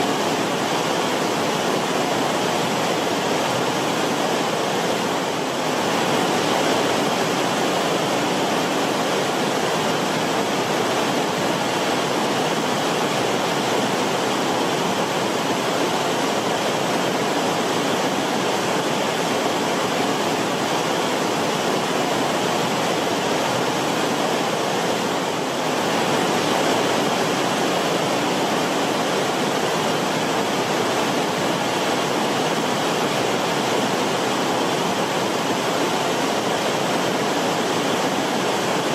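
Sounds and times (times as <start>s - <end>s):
creek water flowing over rocks: 0.0s - 38.9s.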